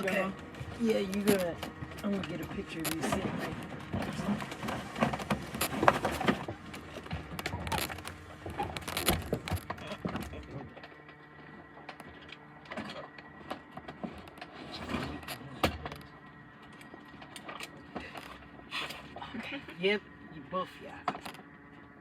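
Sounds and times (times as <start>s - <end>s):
knocks clicks and rustling: 0.0s - 18.4s.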